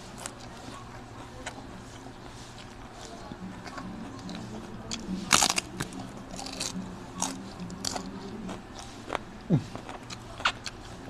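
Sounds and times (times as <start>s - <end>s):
crunchy chewing of flatbread: 0.0s - 11.0s.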